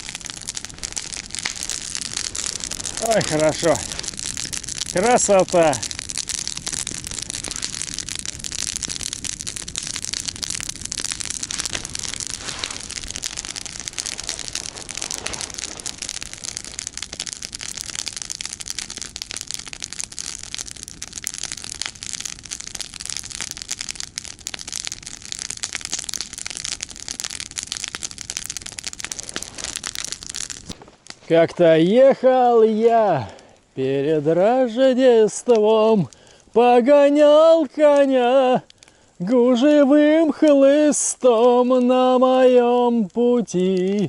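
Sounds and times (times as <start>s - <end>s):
campfire wood crackling: 0.0s - 44.0s.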